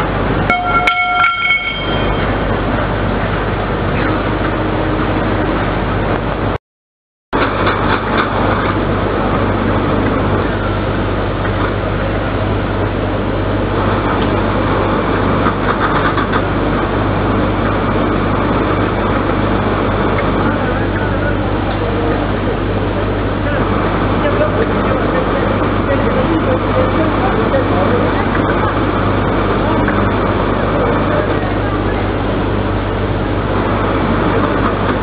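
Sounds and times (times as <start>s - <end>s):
low machinery hum: 0.0s - 6.6s, 7.4s - 35.0s.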